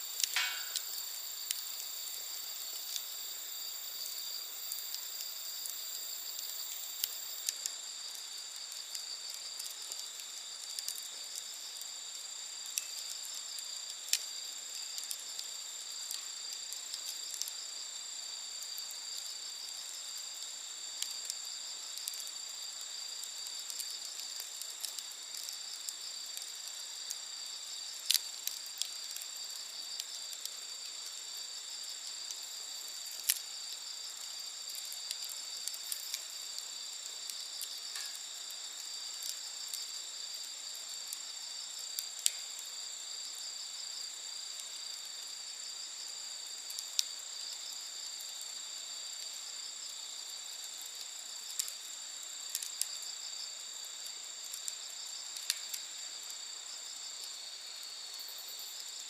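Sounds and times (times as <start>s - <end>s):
campfire crackling: 0.0s - 59.0s
night insects chirring: 0.0s - 59.0s.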